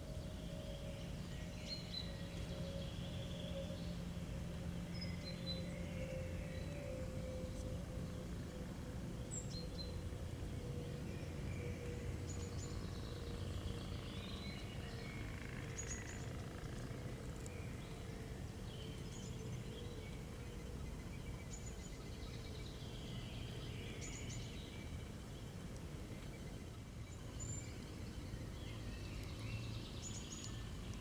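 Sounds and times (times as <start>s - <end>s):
songbirds chirping and trilling: 0.0s - 31.0s
steady low rumble: 2.2s - 31.0s.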